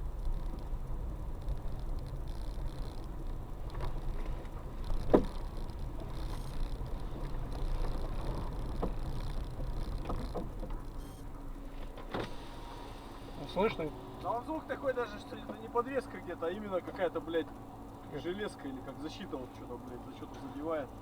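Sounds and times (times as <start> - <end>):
car rumbling on uneven road: 0.0 - 21.0.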